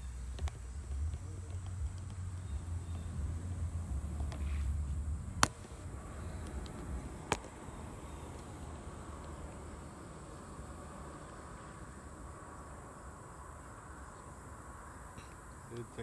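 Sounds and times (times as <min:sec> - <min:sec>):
low rumble: 0:00.0 - 0:15.2
insect chirring: 0:00.0 - 0:16.0.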